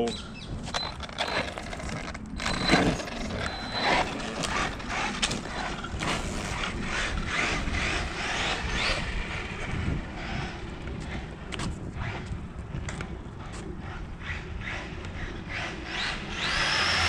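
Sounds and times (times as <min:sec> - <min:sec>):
high motor whine: 0:00.0 - 0:17.0
rc truck motor and tyres: 0:00.0 - 0:17.0.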